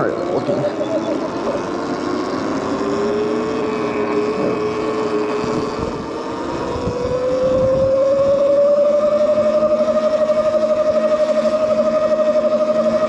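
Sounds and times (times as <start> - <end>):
electric bike motor whining: 0.0 - 13.0.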